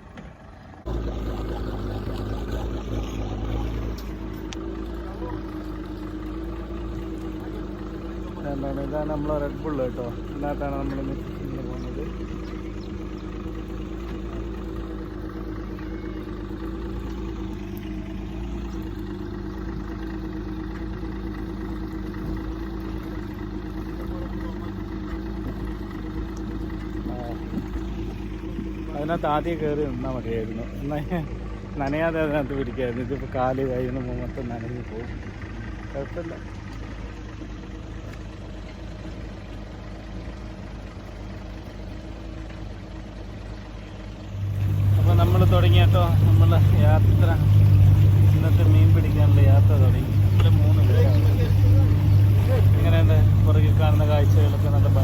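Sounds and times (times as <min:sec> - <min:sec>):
boat engine idling: 0:00.0 - 0:55.0.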